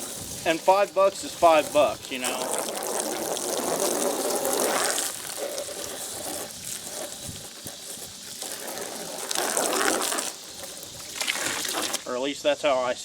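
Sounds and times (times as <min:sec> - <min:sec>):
water running and splashing: 0:00.0 - 0:12.2.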